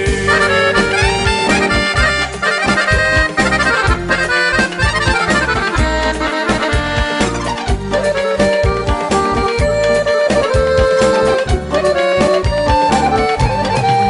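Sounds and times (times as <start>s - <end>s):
quick melodic lead line: 0.0s - 14.0s
steady drum beat: 0.0s - 14.0s.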